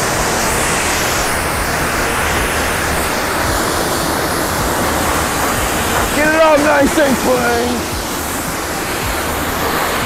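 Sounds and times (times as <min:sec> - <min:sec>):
pressure washer spraying water: 0:00.0 - 0:10.0
pump machinery running: 0:00.0 - 0:10.0.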